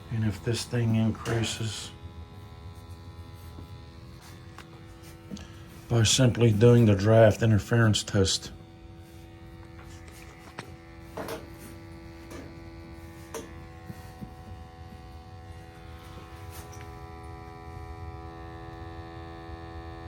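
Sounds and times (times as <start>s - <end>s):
electric pump hum and buzz: 0.0s - 20.0s
gas burner low rumble: 0.0s - 20.0s.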